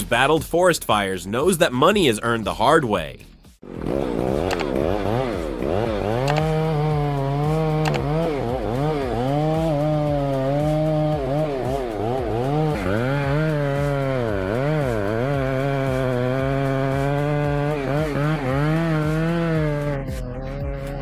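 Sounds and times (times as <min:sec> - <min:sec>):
chainsaw running at high revs: 0:03.6 - 0:21.0.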